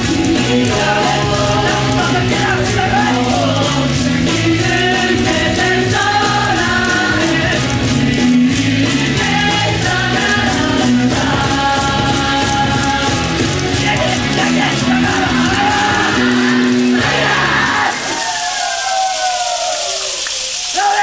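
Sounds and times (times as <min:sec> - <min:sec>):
sung dance music: 0:00.0 - 0:18.4.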